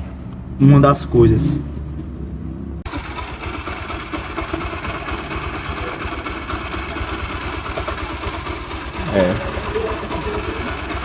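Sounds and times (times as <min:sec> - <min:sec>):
motorcycle engine idling: 0:01.6 - 0:11.0.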